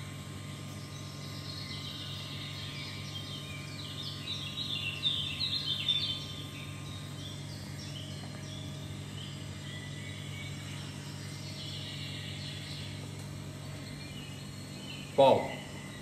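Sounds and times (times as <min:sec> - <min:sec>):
steady low hum: 0:00.0 - 0:16.0
bird chirping: 0:00.5 - 0:16.0.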